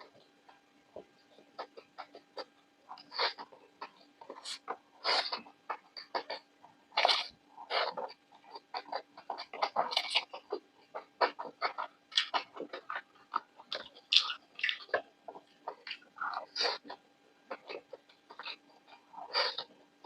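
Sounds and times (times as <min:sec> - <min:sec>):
mouth chewing crunchy food: 0:00.0 - 0:20.0.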